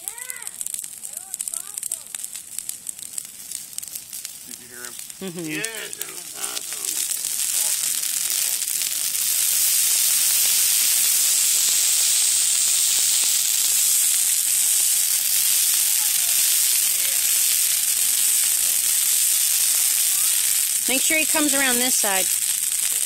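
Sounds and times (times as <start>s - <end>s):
campfire hissing and crackling: 0.0s - 23.0s.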